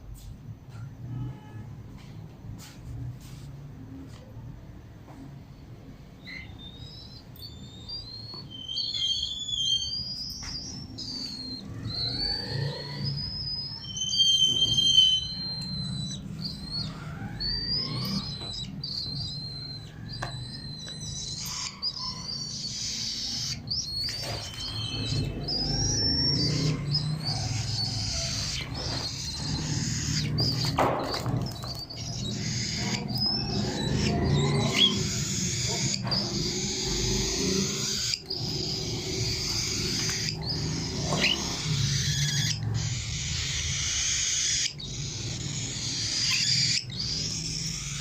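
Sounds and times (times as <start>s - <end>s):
cockatiels chirping and whistling: 6.2s - 48.0s.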